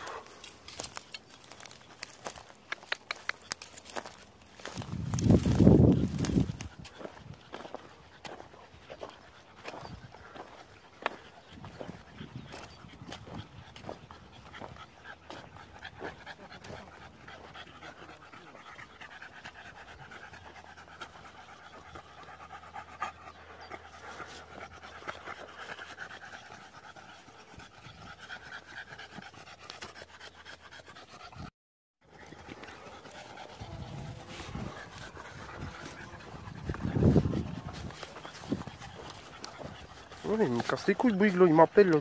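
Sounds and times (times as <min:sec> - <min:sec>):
dog panting: 0:00.0 - 0:42.0.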